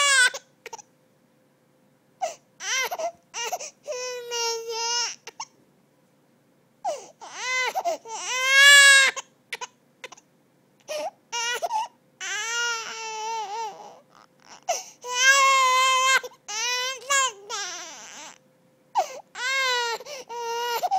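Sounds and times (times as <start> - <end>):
baby crying: 0.0 - 0.8, 2.2 - 5.5, 6.9 - 10.2, 10.9 - 18.4, 19.0 - 20.9.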